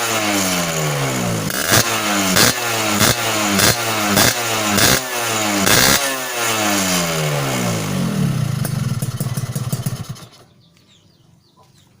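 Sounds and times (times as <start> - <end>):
motorcycle engine revving and idling: 0.0 - 10.7.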